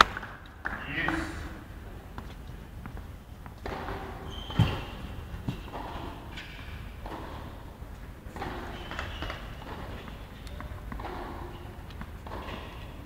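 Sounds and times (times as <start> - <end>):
tennis ball bouncing on hard court: 0.0 - 13.0.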